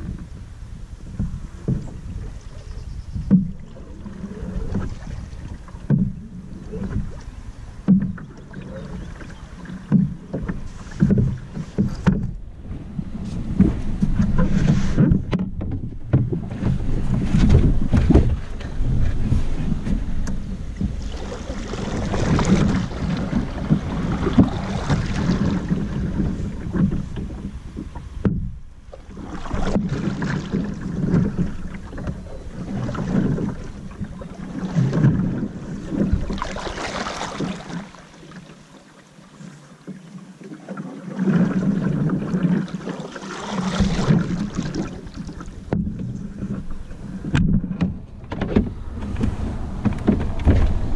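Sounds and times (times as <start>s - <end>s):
wind buffeting microphone: 0.0s - 37.9s, 43.4s - 50.9s
water washing against canoe hull: 0.0s - 50.9s.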